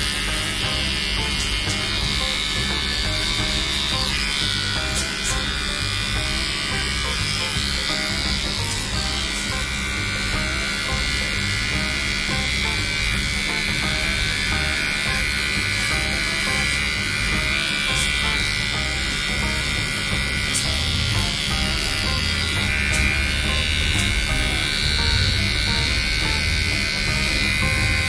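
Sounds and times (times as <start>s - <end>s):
background music: 0.0s - 28.0s
electric pet trimmer running: 0.0s - 28.0s.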